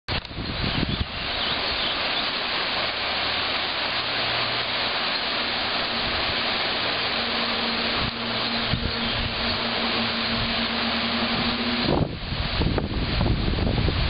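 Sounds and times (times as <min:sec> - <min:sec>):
river rapids rushing: 0:00.1 - 0:14.0.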